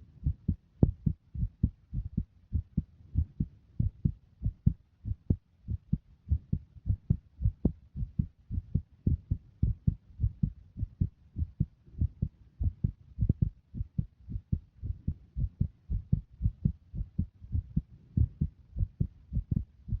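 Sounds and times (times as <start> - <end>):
heartbeat thumps: 0.2 - 20.0.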